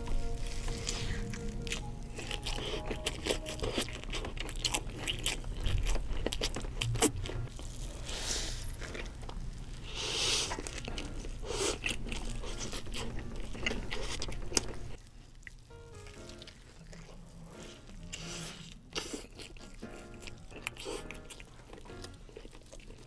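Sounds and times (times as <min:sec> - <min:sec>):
wet chewing: 0:00.0 - 0:23.0
crunching bites of fried burger: 0:01.7 - 0:23.0.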